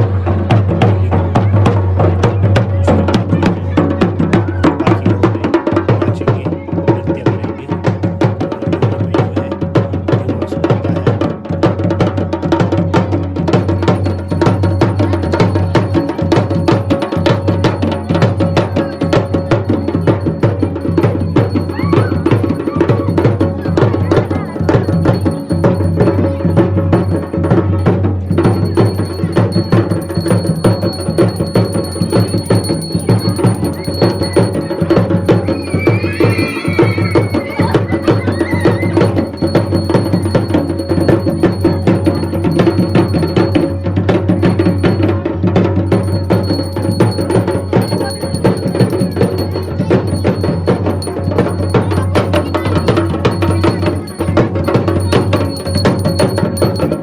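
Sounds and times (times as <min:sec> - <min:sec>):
folk music with fast drumming: 0:00.0 - 0:57.0.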